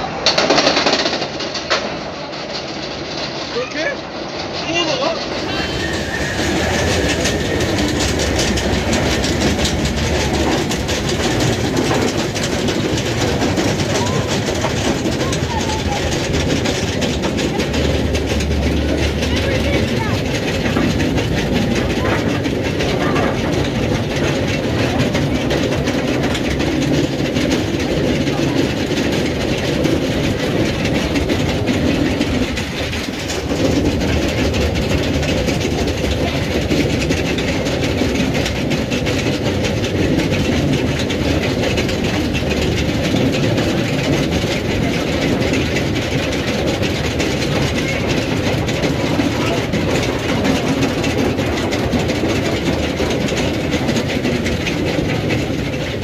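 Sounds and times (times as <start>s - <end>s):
lift chain rattling: 0.0s - 56.0s.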